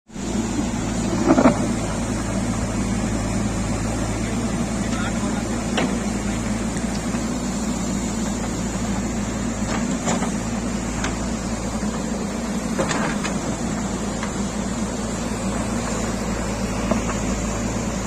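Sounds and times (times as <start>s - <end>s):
diesel engine running: 0.1s - 18.0s.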